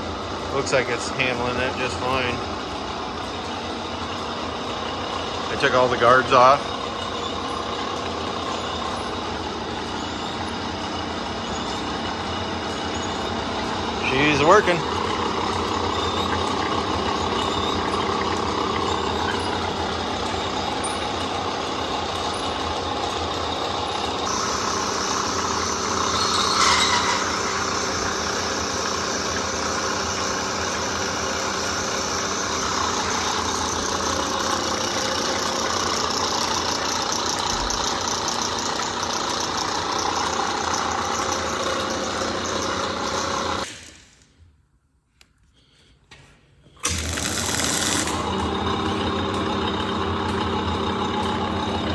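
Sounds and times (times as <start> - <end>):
drill press drilling: 0.0 - 43.9, 46.8 - 51.9.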